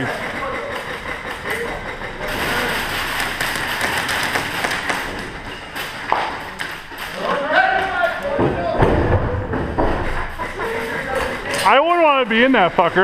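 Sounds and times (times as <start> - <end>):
wheeled cart rattling: 0.0 - 13.0.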